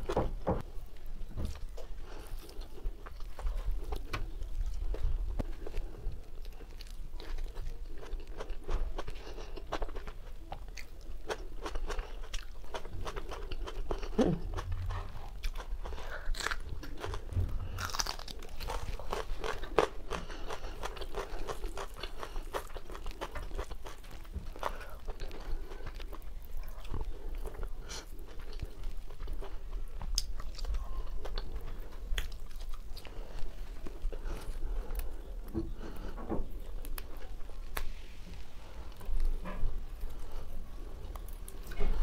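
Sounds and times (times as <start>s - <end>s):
person chewing crunchy food: 0.0s - 42.0s.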